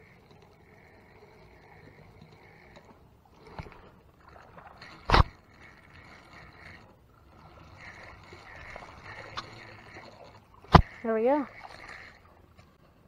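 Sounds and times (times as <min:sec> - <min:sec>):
fishing reel whirring: 0:00.0 - 0:12.7.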